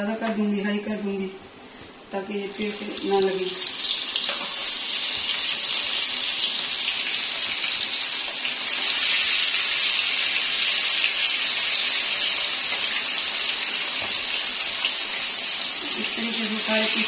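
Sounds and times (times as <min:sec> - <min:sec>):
fish sizzling in hot oil: 0:02.6 - 0:17.0.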